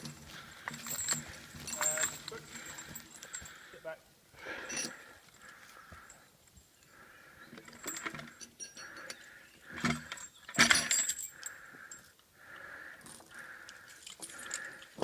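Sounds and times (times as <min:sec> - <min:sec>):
metal chain clinking and rattling: 0:00.0 - 0:03.8, 0:04.6 - 0:06.8, 0:07.5 - 0:12.2, 0:13.0 - 0:15.0.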